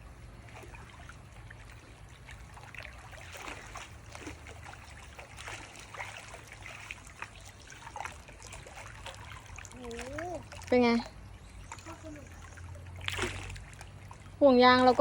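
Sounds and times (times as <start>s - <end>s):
pool water trickling and splashing: 0.0s - 15.0s.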